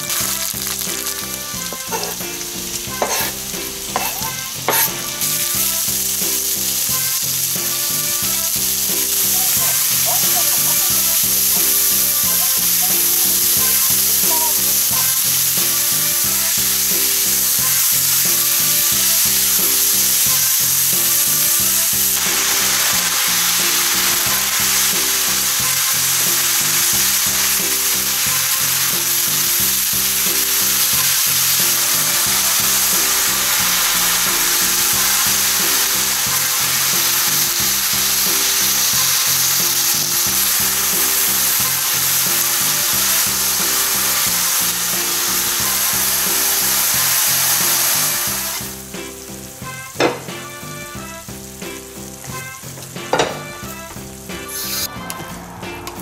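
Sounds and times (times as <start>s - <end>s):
low music loop: 0.0s - 47.2s
meat and vegetables sizzling in pan: 0.0s - 56.0s.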